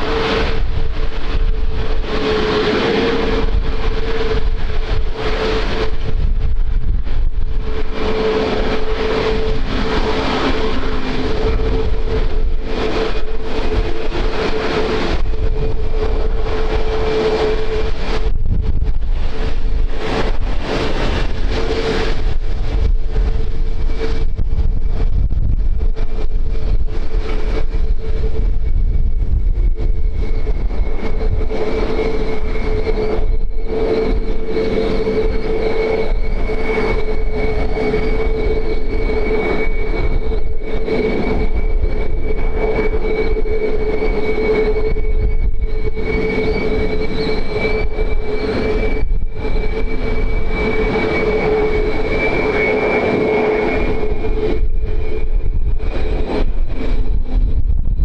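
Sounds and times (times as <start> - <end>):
aircraft engines whining and rumbling: 0.0 - 58.0.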